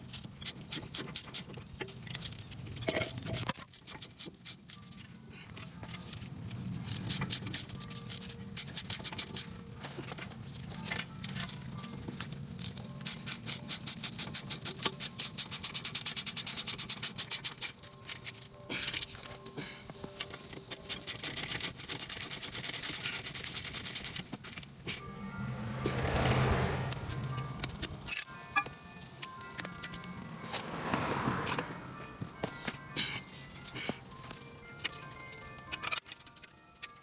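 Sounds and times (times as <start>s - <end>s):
metal tools clicking and scraping: 0.0s - 25.0s, 27.6s - 30.6s, 32.4s - 37.0s
faint background music: 0.0s - 37.0s.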